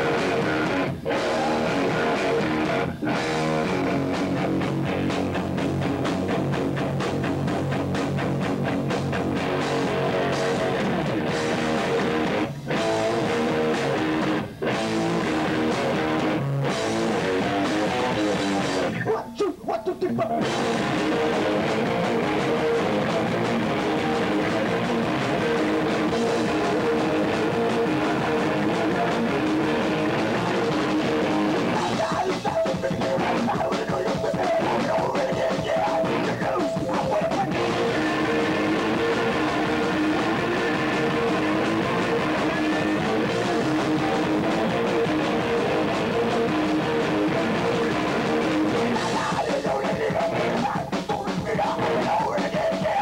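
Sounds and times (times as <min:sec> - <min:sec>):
distorted electric guitars: 0:00.0 - 0:53.0
drum kit playing: 0:00.0 - 0:53.0.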